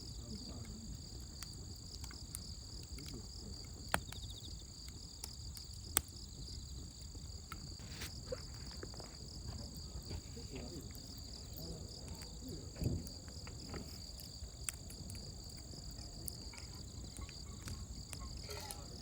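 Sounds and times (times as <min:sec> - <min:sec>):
campfire crackling and popping: 0:00.0 - 0:19.0
insects chirping: 0:00.0 - 0:19.0.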